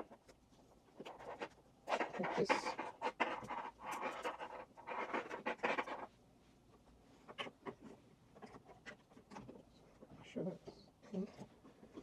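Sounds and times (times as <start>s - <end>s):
cables rustling and scratching: 0.0s - 12.0s.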